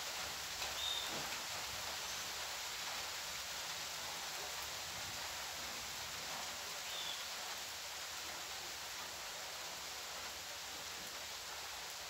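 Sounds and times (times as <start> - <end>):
rain on ground and foliage: 0.0 - 12.0.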